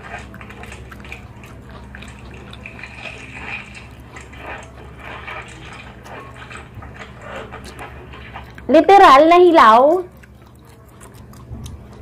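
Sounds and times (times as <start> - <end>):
wet chewing and mouth sounds: 0.0 - 8.8, 9.7 - 12.0
steady low hum: 0.0 - 12.0.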